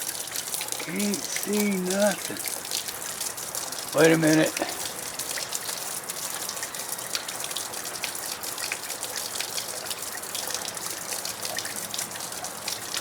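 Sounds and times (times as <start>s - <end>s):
water drips and splatters: 0.0s - 13.0s
water rushing and splashing: 0.0s - 13.0s.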